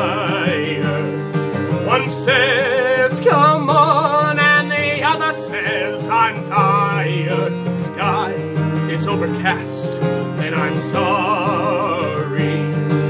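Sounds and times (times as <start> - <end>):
acoustic guitar: 0.0 - 13.0
man singing with vibrato: 0.0 - 13.0.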